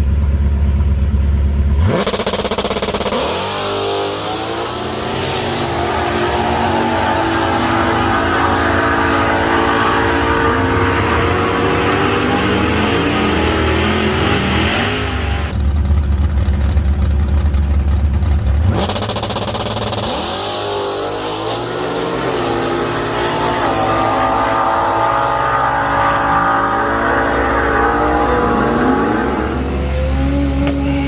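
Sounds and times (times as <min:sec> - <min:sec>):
racing car engines revving: 0:01.5 - 0:31.0.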